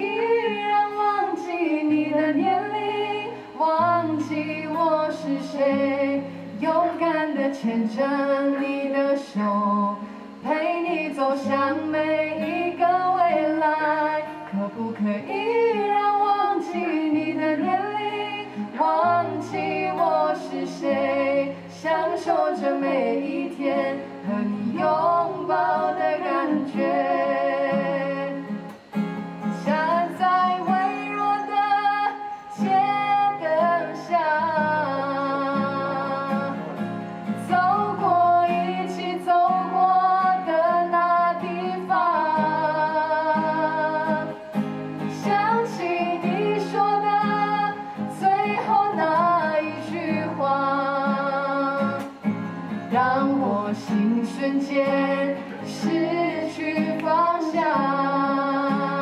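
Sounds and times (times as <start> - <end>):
woman singing: 0.0 - 28.6, 29.6 - 52.3, 52.9 - 59.0
strummed acoustic guitar: 0.0 - 59.0.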